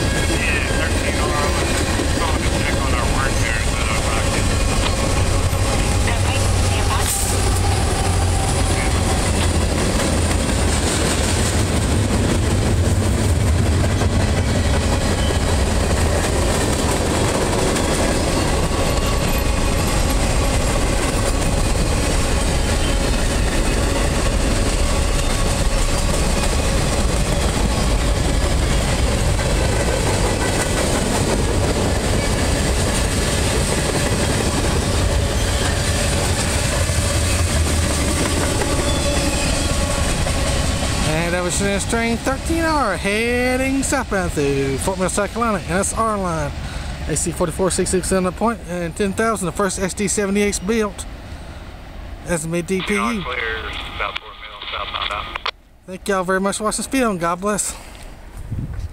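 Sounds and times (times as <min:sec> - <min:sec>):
freight train wheels on rails: 0:00.0 - 0:55.6.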